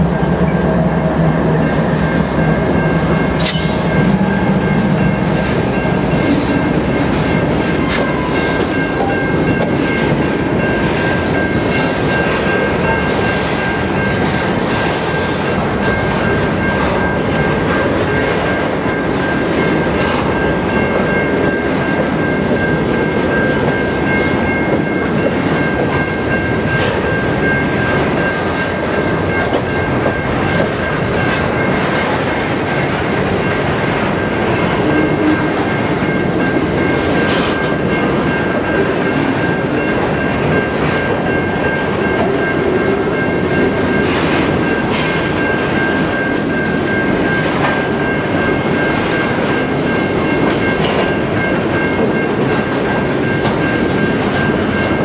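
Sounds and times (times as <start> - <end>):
diesel locomotive engine droning: 0.0 - 55.0
high-pitched ringing: 0.0 - 55.0
train wheels rumbling on rails: 0.0 - 55.0.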